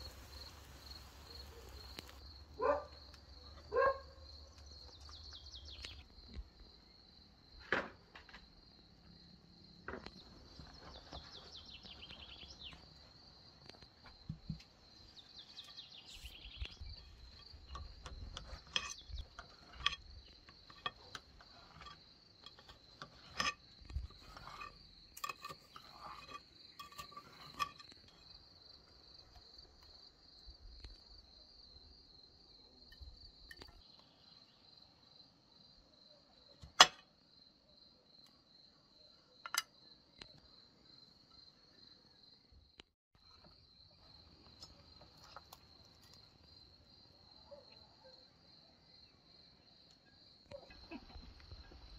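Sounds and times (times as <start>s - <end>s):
crickets chirping: 0.0s - 36.6s, 37.2s - 51.9s.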